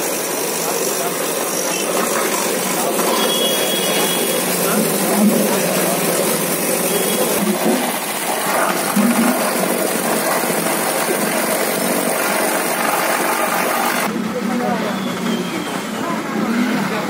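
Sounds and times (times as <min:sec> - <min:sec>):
electric churner motor running: 0:00.0 - 0:14.2.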